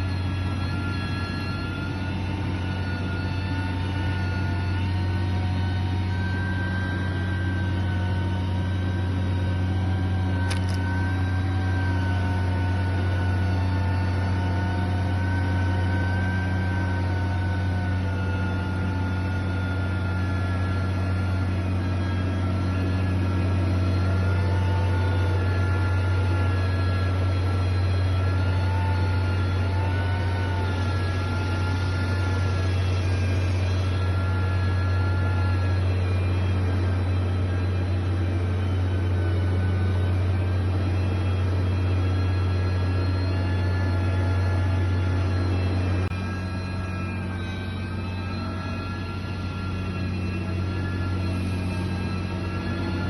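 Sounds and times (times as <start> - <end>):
construction machine engine running: 0.0 - 53.0.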